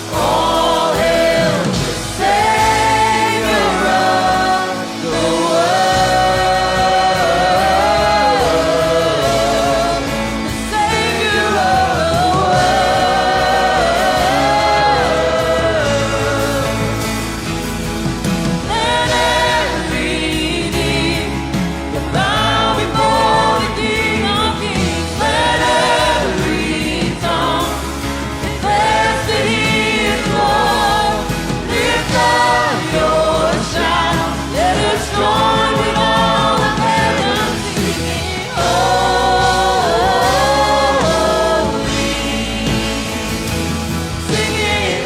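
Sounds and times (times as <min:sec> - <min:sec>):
bass-heavy instrumental backing: 0:00.0 - 0:45.0
voices singing in harmony: 0:00.0 - 0:45.0.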